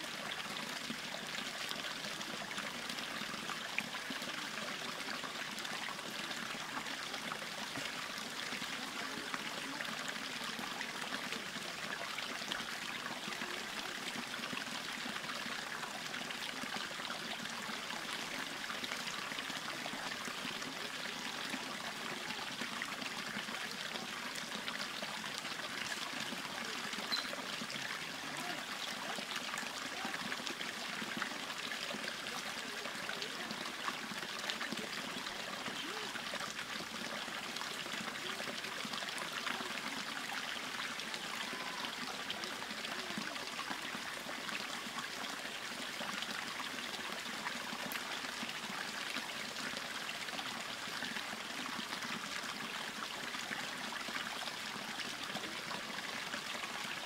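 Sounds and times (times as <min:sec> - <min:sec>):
water trickling over rocks: 0:00.0 - 0:57.0.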